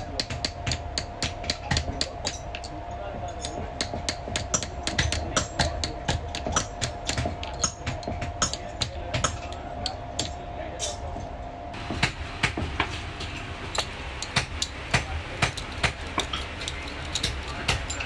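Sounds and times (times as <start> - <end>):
hammer tapping on metal: 0.0 - 18.0.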